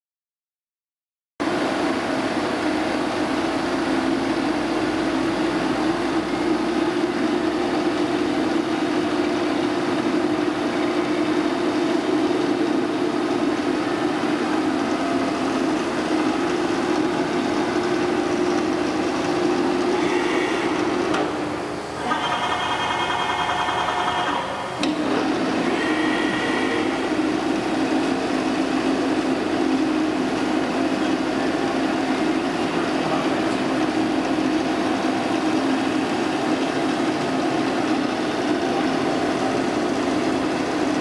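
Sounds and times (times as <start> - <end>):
milling machine humming: 1.4 - 41.0.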